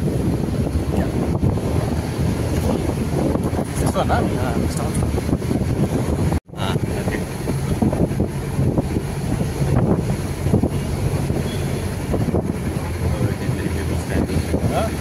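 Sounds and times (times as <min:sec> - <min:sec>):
rumbling road noise: 0:00.0 - 0:15.0
vehicle engine hum: 0:00.0 - 0:15.0
wind buffeting microphone: 0:00.0 - 0:15.0.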